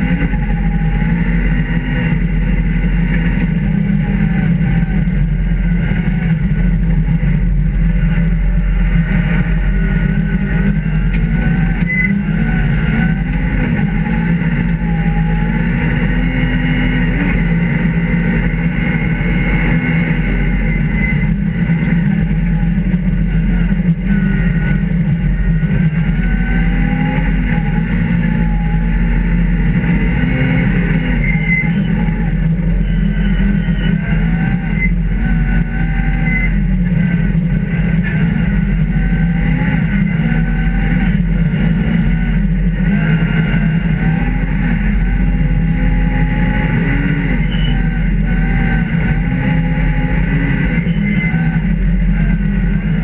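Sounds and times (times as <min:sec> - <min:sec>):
rally car engine revving: 0:00.0 - 0:53.0
road noise: 0:00.0 - 0:53.0.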